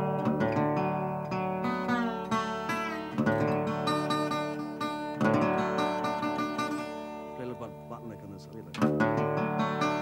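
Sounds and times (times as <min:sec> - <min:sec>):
acoustic guitar playing blues: 0:00.0 - 0:10.0.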